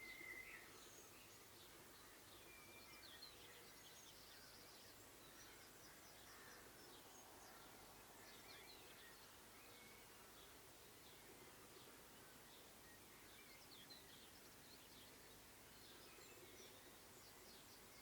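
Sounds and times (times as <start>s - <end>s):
bird warbling song: 0.0s - 18.0s
steady background hiss: 0.0s - 18.0s.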